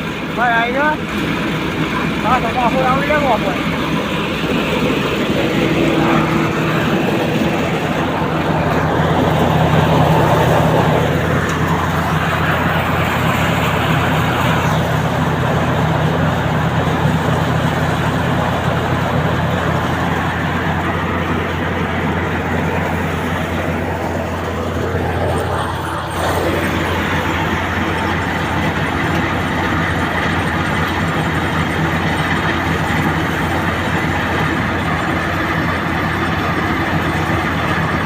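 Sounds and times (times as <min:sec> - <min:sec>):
threshing machine whirring: 0:00.0 - 0:38.0
tractor engine drone: 0:00.0 - 0:38.0.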